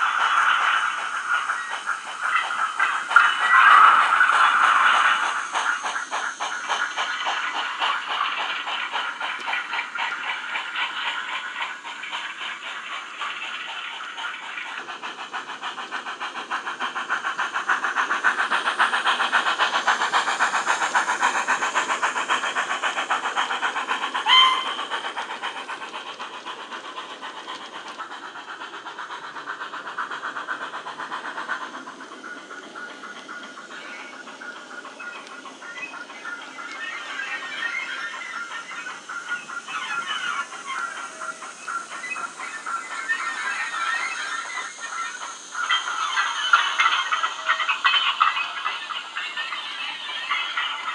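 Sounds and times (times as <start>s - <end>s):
model steam exhaust chuffs: 0.0s - 50.9s
model wheels running on track: 0.0s - 50.9s.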